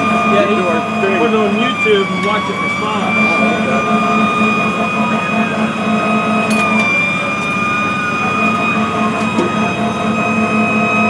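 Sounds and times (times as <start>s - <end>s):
fire engine siren: 0.0s - 11.0s.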